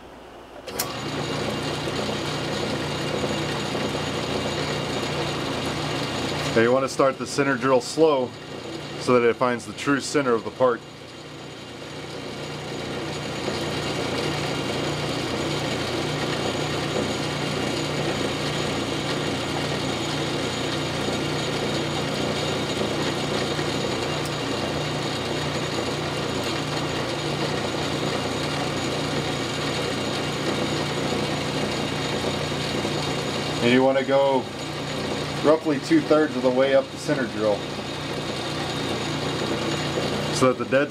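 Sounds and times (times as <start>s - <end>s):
lathe machining: 0.7s - 40.9s.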